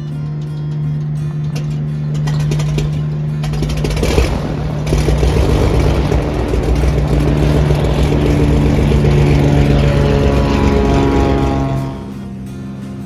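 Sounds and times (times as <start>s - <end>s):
piston airplane taking off: 0.7s - 13.0s.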